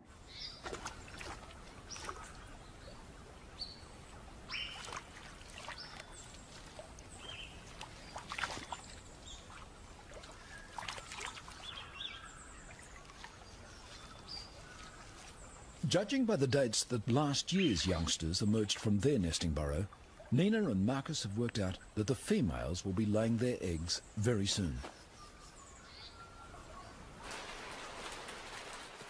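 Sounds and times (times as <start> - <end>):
birds chirping: 0.1 - 27.3
faint running water: 0.2 - 24.8
water splashes: 0.5 - 23.3, 27.2 - 29.0.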